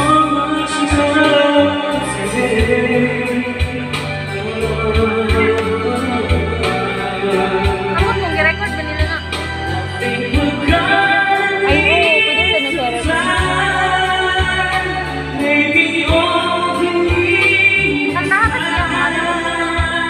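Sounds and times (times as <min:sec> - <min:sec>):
backing track with bass and beat: 0:00.0 - 0:20.0
man singing karaoke: 0:00.0 - 0:20.0.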